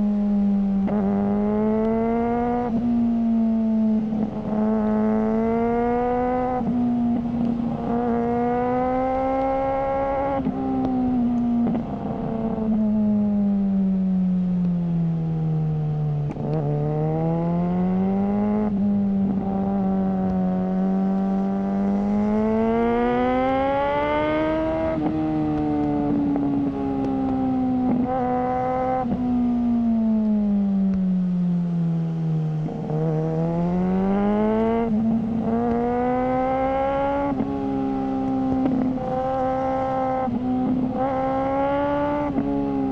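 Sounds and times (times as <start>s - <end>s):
motorcycle engine revving: 0.0s - 13.9s, 16.0s - 31.0s, 32.2s - 42.9s.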